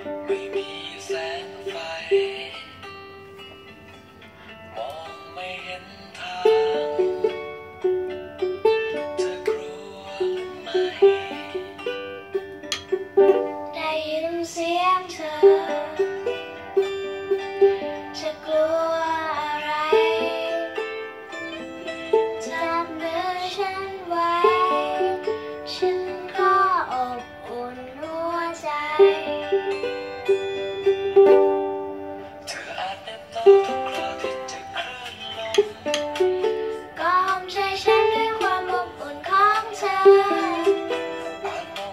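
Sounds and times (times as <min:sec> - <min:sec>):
girl singing: 0:00.0 - 0:03.0, 0:04.8 - 0:30.4, 0:31.1 - 0:41.9
ukulele strumming: 0:00.0 - 0:41.9.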